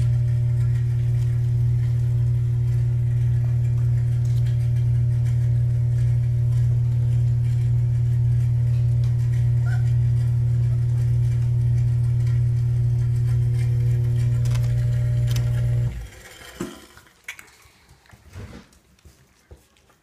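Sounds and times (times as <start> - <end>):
puppies scuffling in a tub: 0.0 - 13.4, 16.6 - 20.0
electric motor hum: 0.0 - 16.9.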